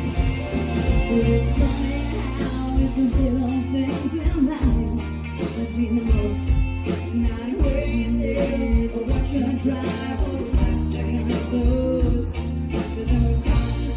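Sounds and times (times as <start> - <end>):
country band playing live: 0.0 - 13.9
drums keeping steady beat: 0.0 - 13.9.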